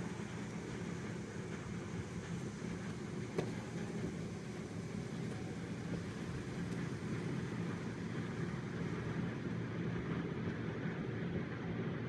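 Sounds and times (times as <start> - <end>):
low drone of farm machinery: 0.0 - 12.0.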